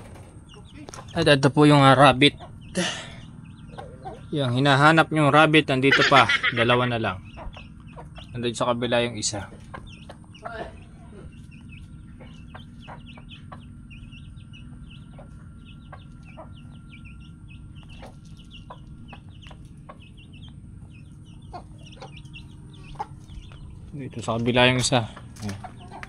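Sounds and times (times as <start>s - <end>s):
chickens clucking: 0.0s - 26.0s
chicks peeping: 0.0s - 26.0s
low rumble: 0.0s - 26.0s.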